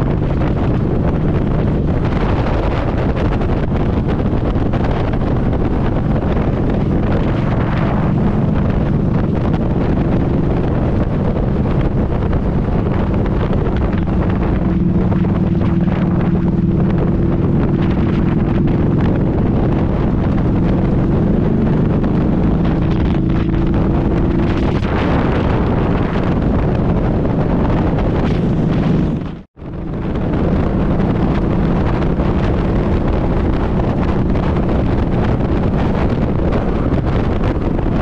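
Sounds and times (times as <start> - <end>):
motorcycle engine running: 0.0 - 38.0
wind rushing over microphone: 0.0 - 38.0.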